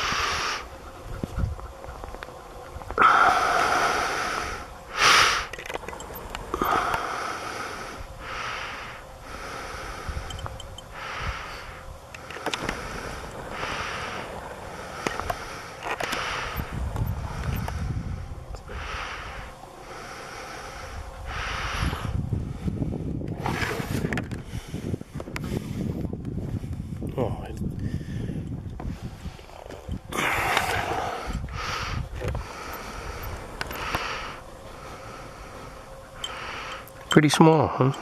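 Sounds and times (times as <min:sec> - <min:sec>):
person breathing: 0:00.0 - 0:00.7, 0:03.0 - 0:05.5, 0:06.5 - 0:23.2, 0:24.4 - 0:26.9, 0:27.8 - 0:37.0.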